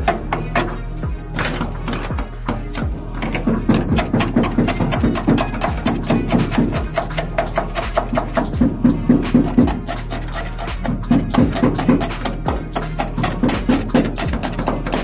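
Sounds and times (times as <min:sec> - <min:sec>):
steady low hum: 0:00.0 - 0:15.0
hand tool chipping knocks: 0:01.4 - 0:15.0.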